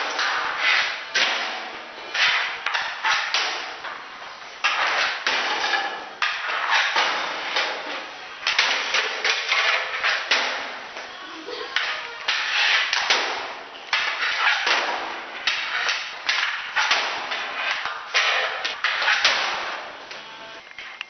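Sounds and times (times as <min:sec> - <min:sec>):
hockey sticks cracking: 0:00.0 - 0:20.2.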